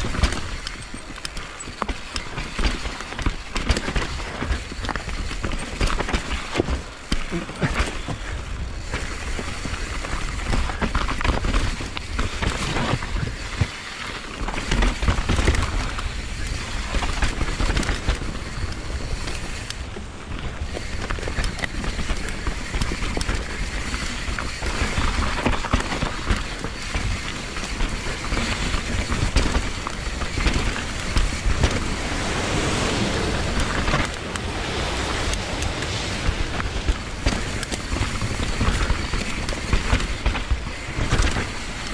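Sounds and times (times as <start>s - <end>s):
bike rattling over bumps: 0.0s - 41.9s
tyre and wind rush: 0.0s - 41.9s.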